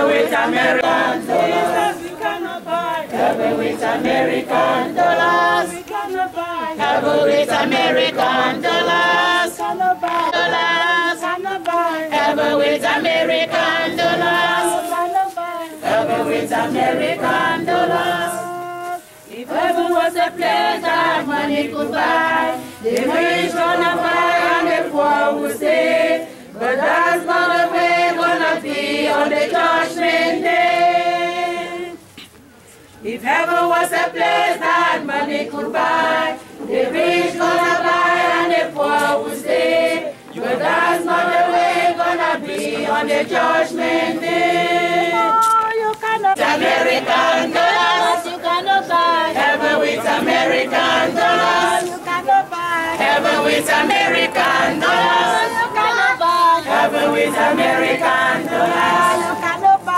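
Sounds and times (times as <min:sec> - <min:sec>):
congregation singing a hymn: 0:00.0 - 0:32.2, 0:33.0 - 0:59.9.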